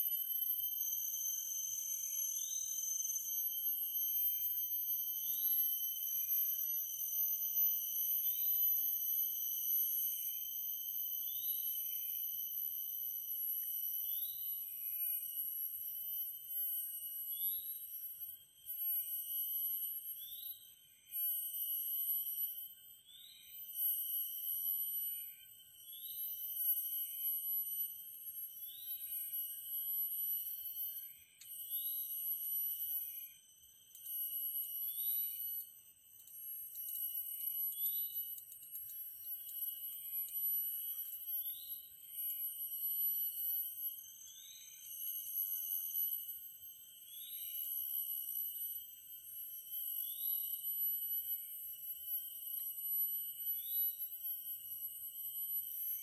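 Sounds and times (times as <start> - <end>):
insects shrill droning: 0.0 - 56.0.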